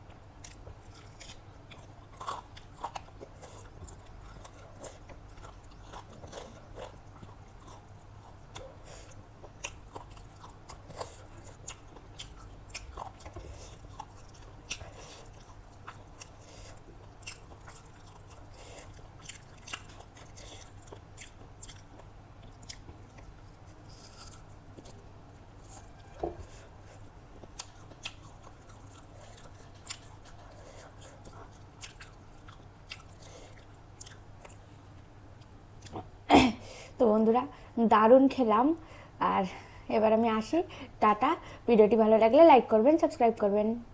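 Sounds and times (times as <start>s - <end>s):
person chewing food: 0.0s - 36.2s.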